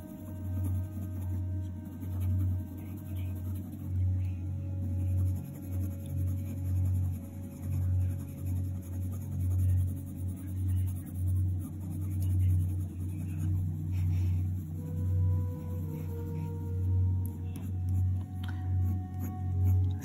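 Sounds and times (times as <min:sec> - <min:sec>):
pencil rubbing on paper: 0:00.0 - 0:20.0.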